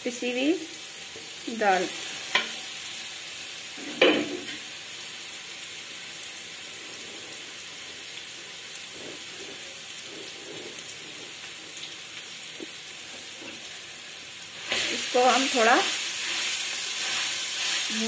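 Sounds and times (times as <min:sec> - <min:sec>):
food sizzling in pan: 0:00.0 - 0:18.0.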